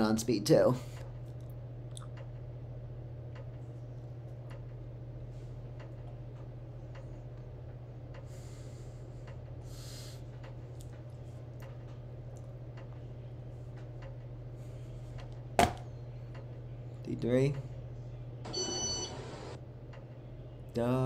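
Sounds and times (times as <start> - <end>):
ceiling fan motor hum: 0.0 - 21.0.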